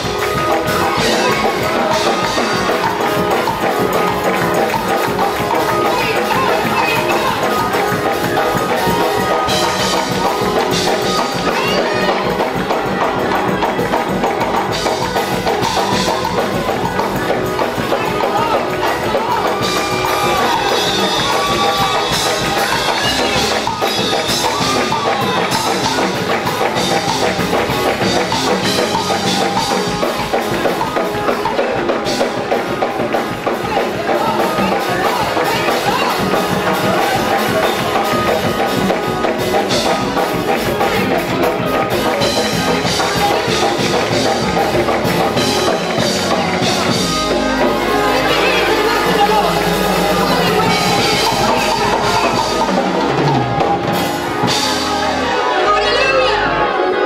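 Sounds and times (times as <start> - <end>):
choir and congregation singing: 0.0 - 32.3, 32.9 - 57.0
hands clapping: 0.0 - 54.6
drums and percussion beat: 0.0 - 55.6.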